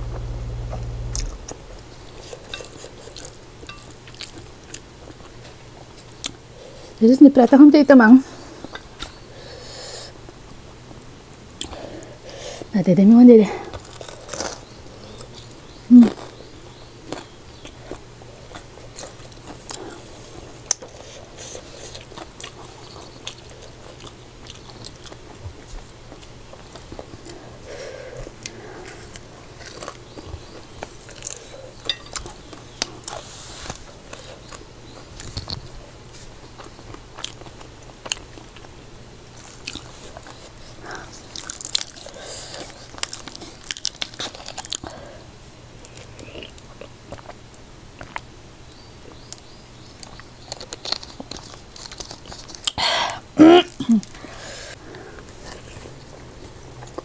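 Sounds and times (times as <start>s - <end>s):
chewing with wet clicks and crunches: 2.2s - 6.4s, 11.3s - 12.1s, 13.7s - 45.0s, 45.7s - 52.8s, 54.8s - 57.0s.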